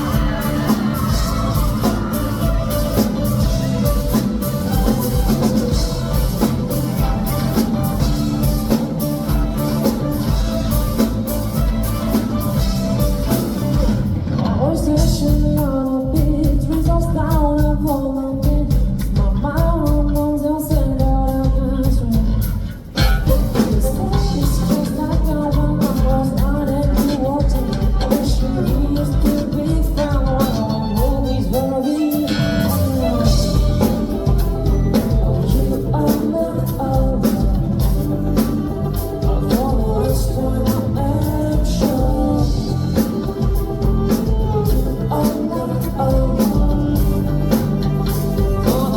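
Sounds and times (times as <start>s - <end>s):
melodic lead line: 0.0s - 14.4s, 23.1s - 48.9s
live rock band: 0.0s - 48.9s.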